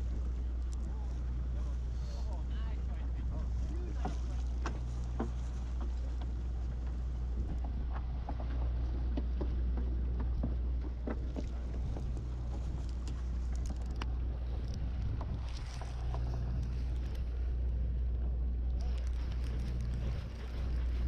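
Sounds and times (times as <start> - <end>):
boat machinery drone: 0.0 - 21.0.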